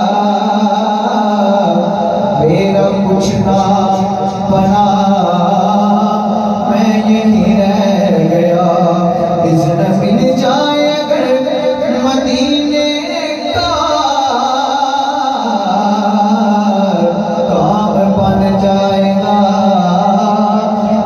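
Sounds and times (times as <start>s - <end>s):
man singing melodic lines: 0.0s - 21.0s.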